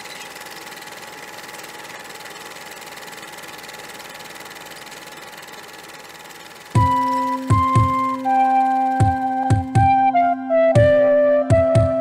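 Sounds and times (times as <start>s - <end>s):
film projector clattering: 0.0s - 9.6s
thin steady whine: 0.0s - 9.8s.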